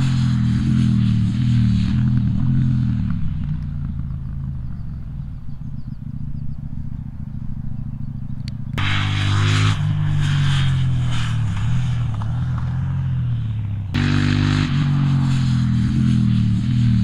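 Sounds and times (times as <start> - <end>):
motorcycle engine passing by: 0.0 - 17.0.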